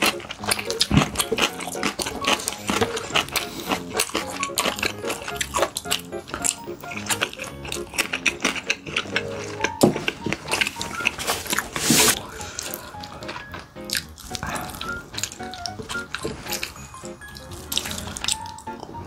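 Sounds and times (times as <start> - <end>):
background music: 0.0 - 19.0
wet chewing clicks: 0.0 - 19.0.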